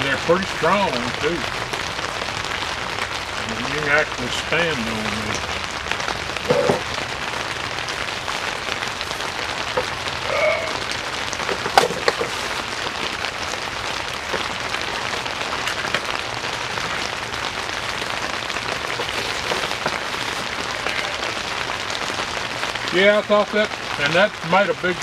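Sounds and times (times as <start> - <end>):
rain on a tent roof: 0.0 - 25.0.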